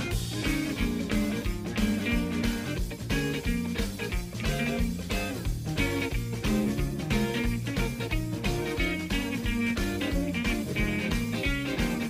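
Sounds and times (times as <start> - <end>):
instrumental music with guitar: 0.0 - 12.0.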